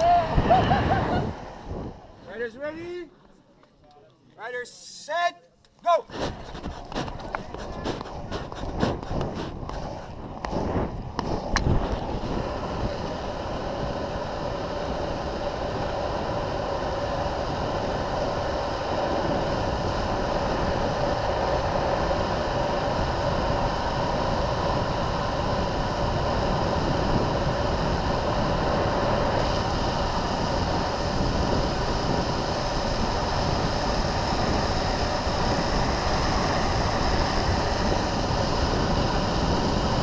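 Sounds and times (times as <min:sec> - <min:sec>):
wind rushing over microphone: 0:00.0 - 0:02.5, 0:06.1 - 0:40.0
wheels rolling on asphalt: 0:06.2 - 0:40.0.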